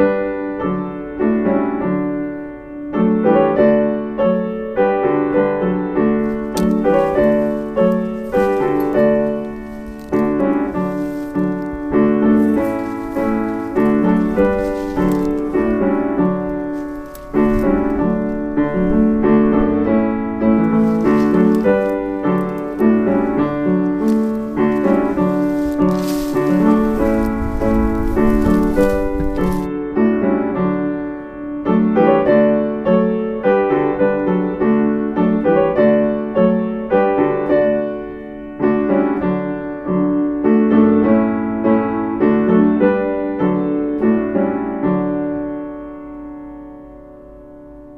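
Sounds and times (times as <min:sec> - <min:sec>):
piano music: 0:00.0 - 0:47.9.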